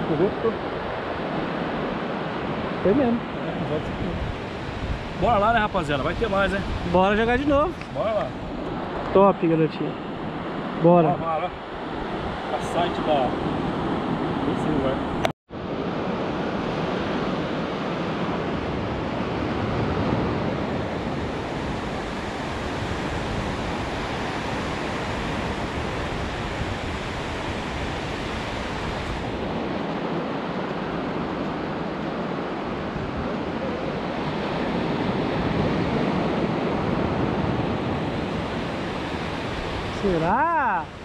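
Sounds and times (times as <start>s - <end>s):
ocean waves breaking on beach: 0.0s - 41.0s.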